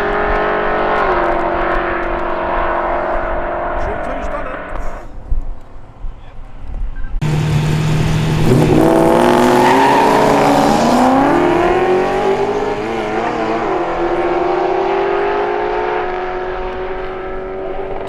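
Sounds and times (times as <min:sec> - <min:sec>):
cars accelerating hard: 0:00.0 - 0:05.0, 0:07.2 - 0:18.0.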